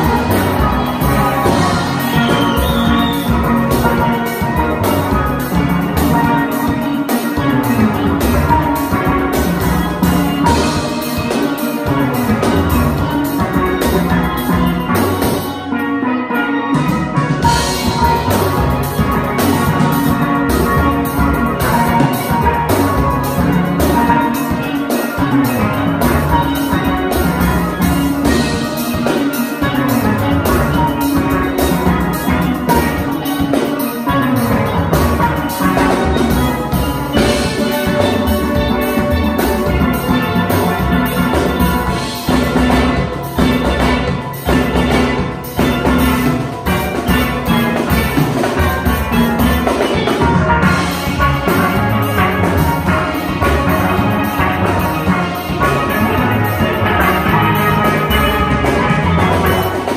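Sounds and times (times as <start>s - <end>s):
drum kit beat: 0.0s - 59.9s
steel pans playing melody: 0.0s - 59.9s.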